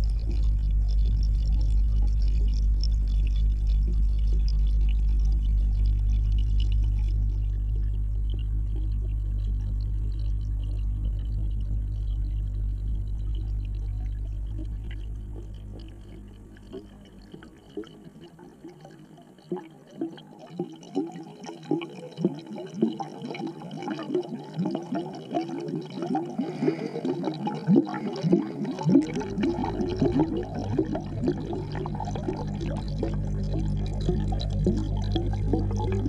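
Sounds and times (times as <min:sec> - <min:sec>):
air bubbles gurgling underwater: 0:00.0 - 0:36.0
low steady hum: 0:00.0 - 0:36.0.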